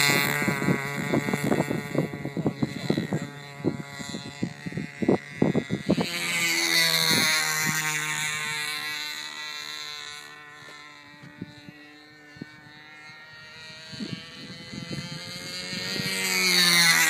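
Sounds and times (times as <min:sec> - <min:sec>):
model plane motor buzzing: 0:00.0 - 0:17.0.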